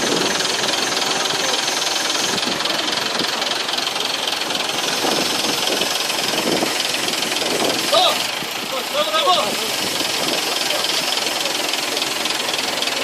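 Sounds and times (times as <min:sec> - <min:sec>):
loud boat engine running: 0:00.0 - 0:13.0.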